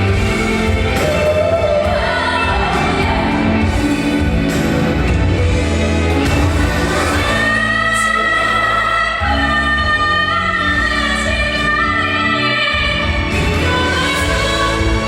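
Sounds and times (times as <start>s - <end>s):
band accompaniment with bass: 0.0s - 15.0s.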